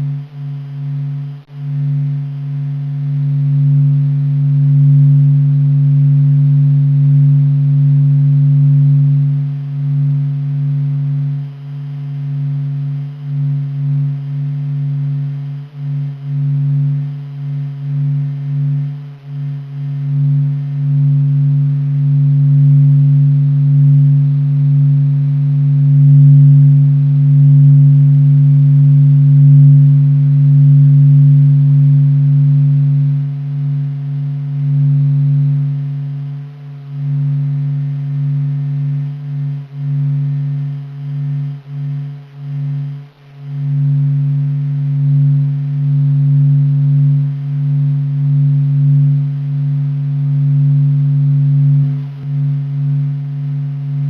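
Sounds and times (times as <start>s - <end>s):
fainter higher tone: 0.0s - 54.0s
low steady hum: 0.0s - 54.0s.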